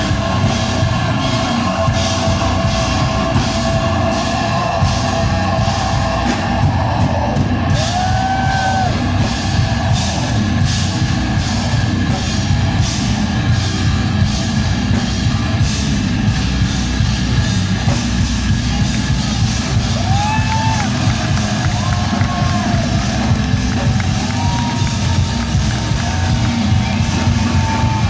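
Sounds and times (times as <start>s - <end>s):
heavy metal band playing: 0.0s - 28.0s.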